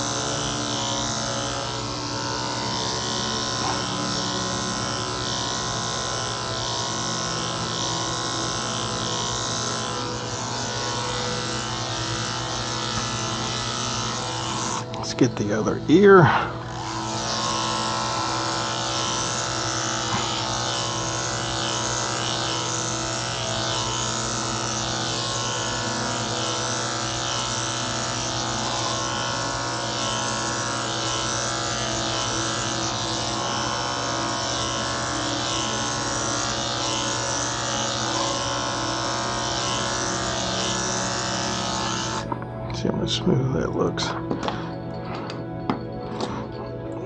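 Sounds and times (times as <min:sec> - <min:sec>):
electric clippers humming: 0:00.0 - 0:47.0.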